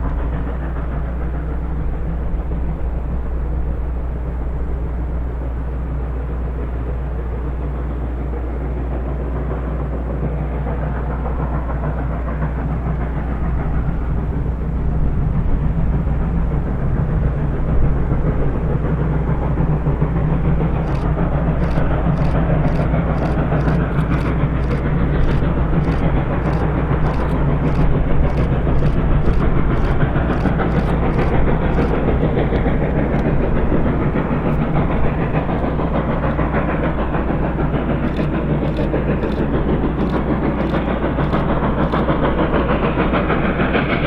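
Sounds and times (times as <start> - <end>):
steam train rumbling: 0.0 - 44.0.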